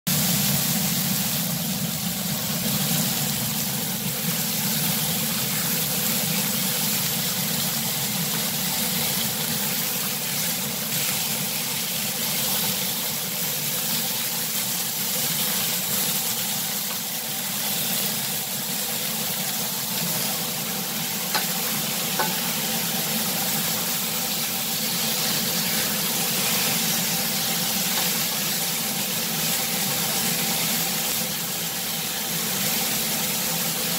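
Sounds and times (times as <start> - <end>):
steaks sizzling in pans: 0.1 - 33.9.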